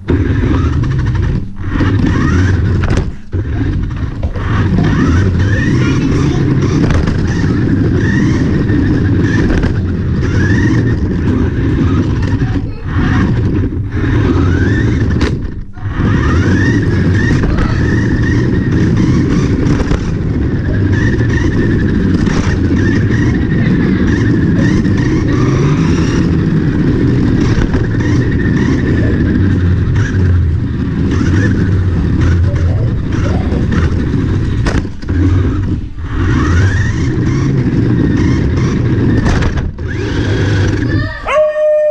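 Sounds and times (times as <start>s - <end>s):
toy car motor whining: 0.0s - 41.9s
wheels rolling on wooden floor: 0.0s - 41.9s.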